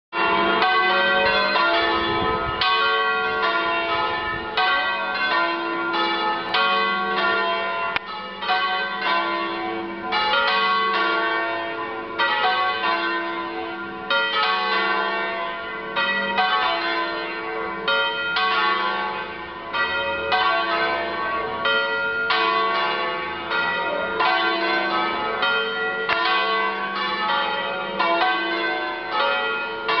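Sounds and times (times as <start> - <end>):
church bells pealing: 0.1 - 30.0.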